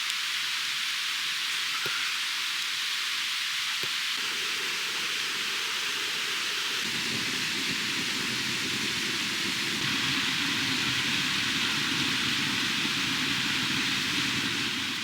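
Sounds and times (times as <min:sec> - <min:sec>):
food sizzling on a grill: 0:00.0 - 0:15.0.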